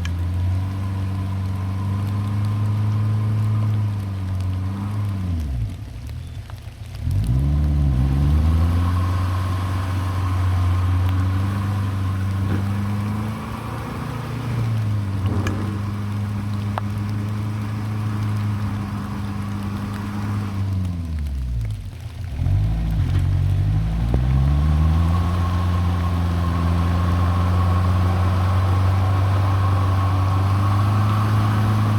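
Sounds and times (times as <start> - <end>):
diesel engine revving: 0.0 - 5.8, 6.9 - 31.9.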